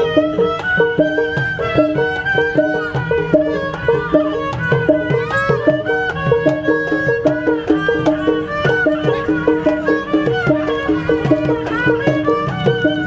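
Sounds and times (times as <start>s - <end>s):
higher melody line: 0.0s - 13.0s
steady drum beats: 0.0s - 13.0s.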